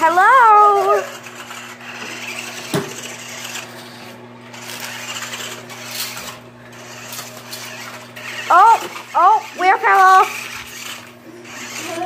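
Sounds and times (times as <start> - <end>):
toy car electric motor whirring: 0.0 - 12.0.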